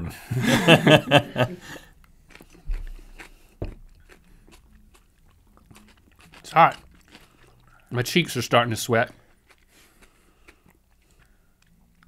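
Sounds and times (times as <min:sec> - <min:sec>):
chewing crunches: 0:01.9 - 0:12.0.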